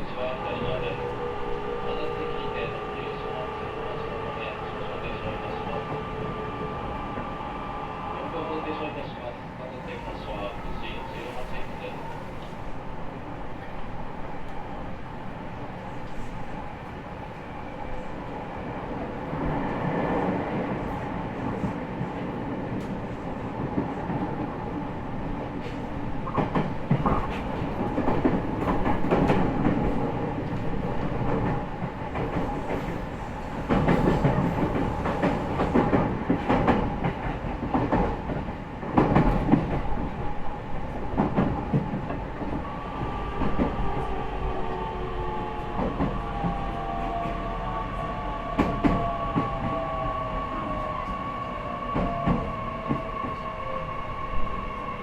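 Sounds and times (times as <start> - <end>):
train running inside carriage: 0.0 - 55.0.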